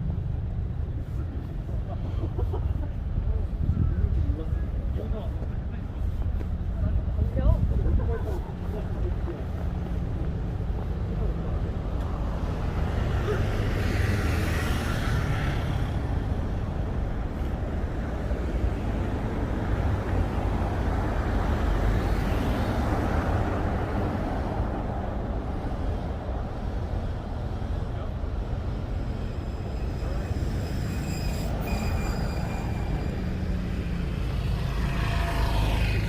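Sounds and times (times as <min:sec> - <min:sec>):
city street traffic rumble: 0:00.0 - 0:36.0.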